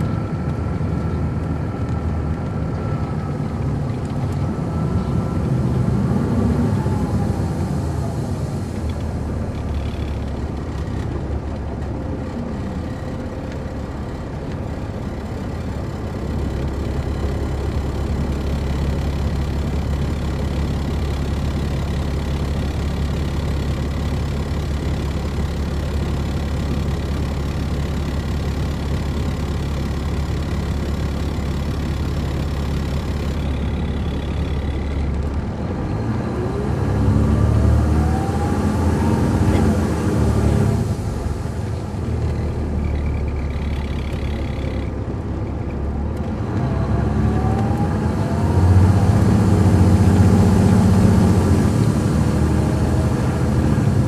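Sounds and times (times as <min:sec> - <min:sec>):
bus engine idling and revving: 0:00.0 - 0:54.0
engine rising whine: 0:00.0 - 0:54.0.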